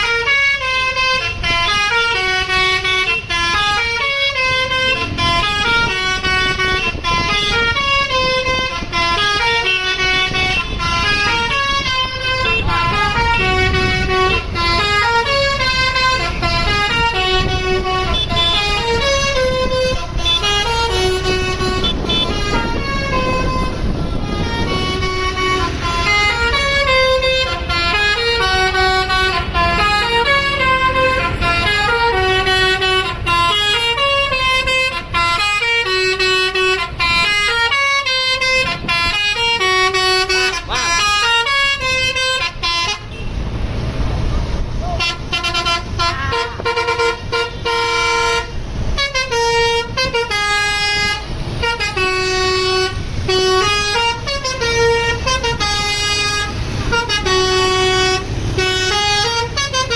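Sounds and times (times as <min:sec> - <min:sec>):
musical air horn playing a tune: 0:00.0 - 0:43.3, 0:45.0 - 0:59.9.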